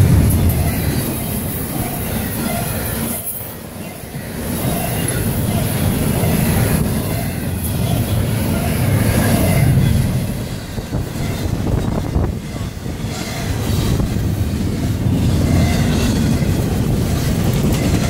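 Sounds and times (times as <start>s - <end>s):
freight train wheels rumbling and rattling: 0.0s - 18.0s.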